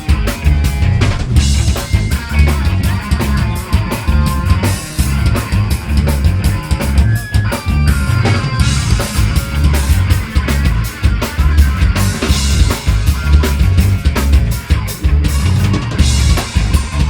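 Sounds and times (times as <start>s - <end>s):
heavy bass drum: 0.0s - 17.0s
heavy metal band playing: 0.0s - 17.0s.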